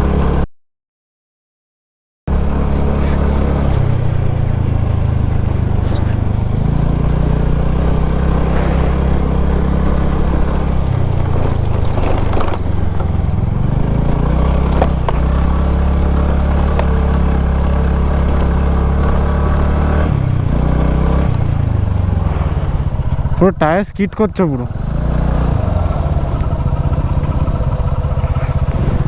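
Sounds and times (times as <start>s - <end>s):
scooter engine running: 0.0s - 0.4s, 2.3s - 29.0s.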